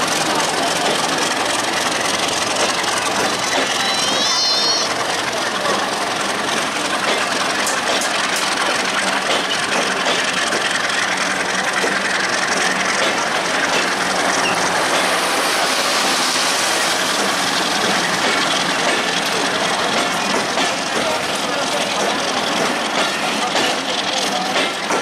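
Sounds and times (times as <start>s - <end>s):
train wheels running on rails: 0.0s - 25.0s.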